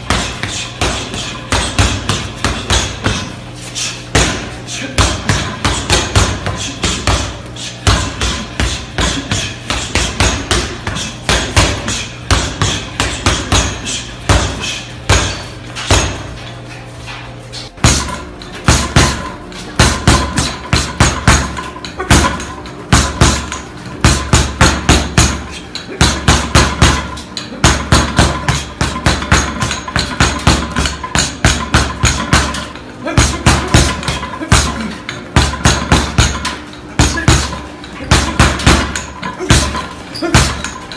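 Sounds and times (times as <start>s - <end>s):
punches on a speed bag: 0.0s - 16.4s, 17.7s - 40.9s.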